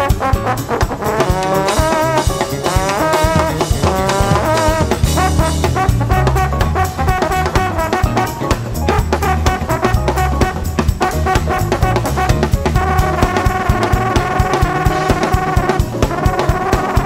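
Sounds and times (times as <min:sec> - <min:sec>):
drum kit steady beat: 0:00.0 - 0:17.0
electric bass: 0:00.0 - 0:17.0
electric piano: 0:00.0 - 0:17.0
trombone lead: 0:00.0 - 0:17.0.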